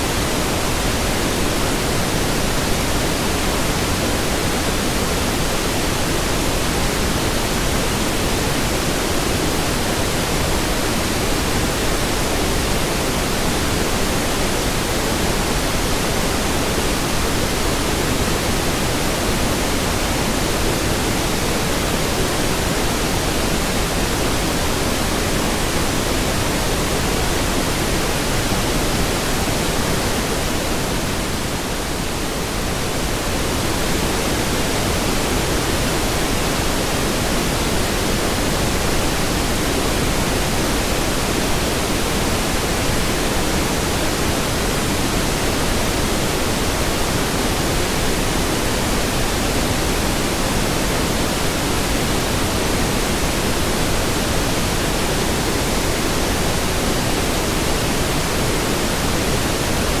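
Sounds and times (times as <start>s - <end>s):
pink noise hiss: 0.0s - 60.0s.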